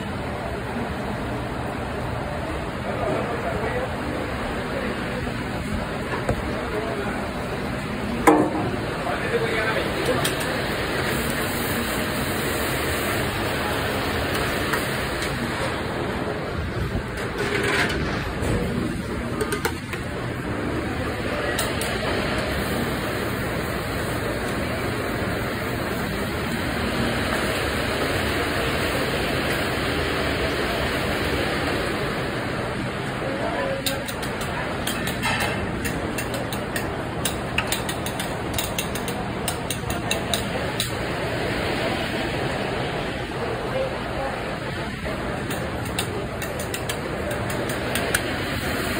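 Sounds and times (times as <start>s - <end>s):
grill rushing noise: 0.0s - 48.9s.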